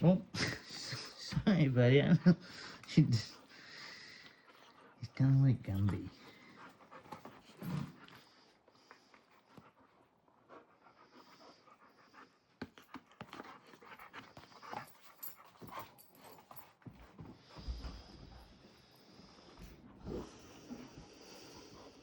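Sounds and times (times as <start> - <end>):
dog panting: 1.8 - 22.0.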